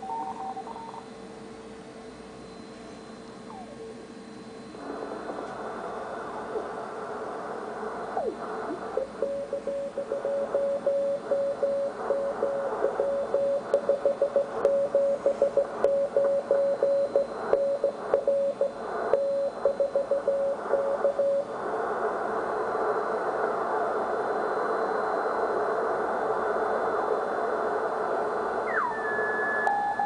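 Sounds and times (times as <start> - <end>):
radio receiver hiss: 4.7 - 30.0.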